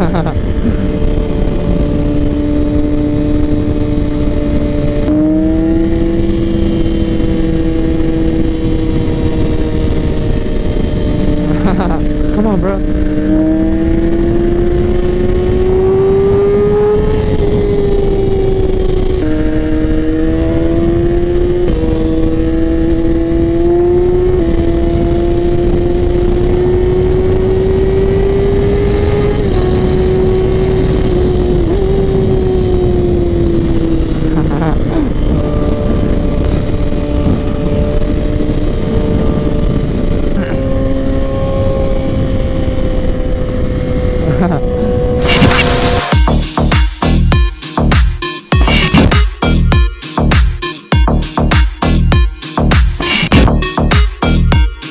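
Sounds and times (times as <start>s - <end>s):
motorcycle engine at high revs: 0.0s - 54.9s.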